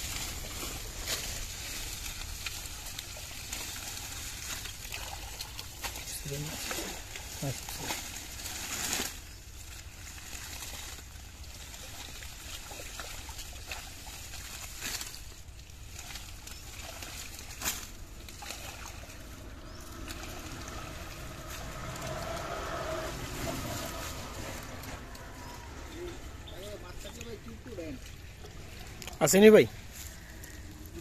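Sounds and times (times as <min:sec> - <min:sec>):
muddy water sloshing: 0:00.0 - 0:31.0.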